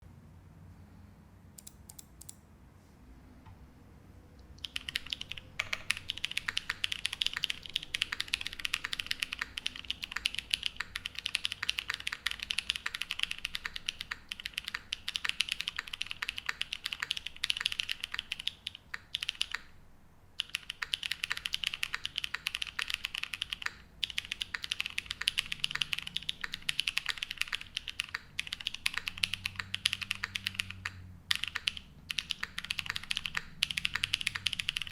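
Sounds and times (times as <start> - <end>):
fast mechanical keyboard typing: 4.6 - 19.7, 20.4 - 34.9.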